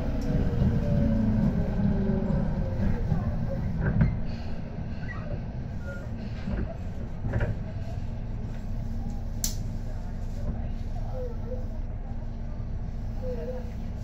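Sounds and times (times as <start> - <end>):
train interior low rumble: 0.0 - 14.0.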